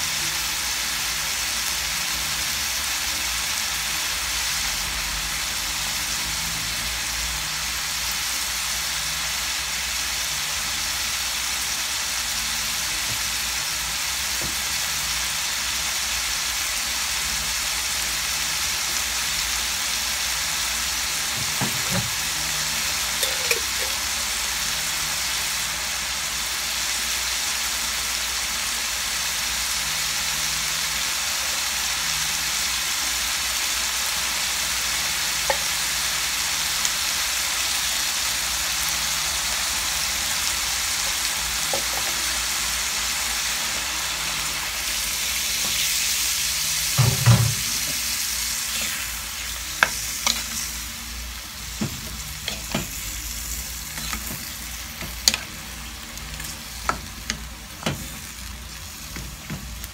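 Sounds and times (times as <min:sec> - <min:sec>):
chicken sizzling in oil: 0:00.0 - 0:59.9.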